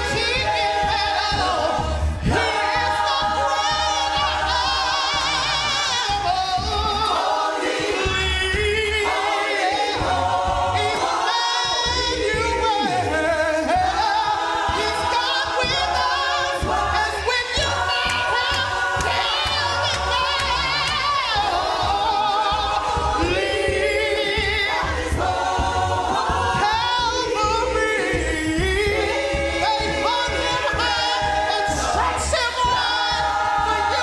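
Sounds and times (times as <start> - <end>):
choir singing harmonies: 0.0 - 34.0
woman lead singing: 0.0 - 34.0.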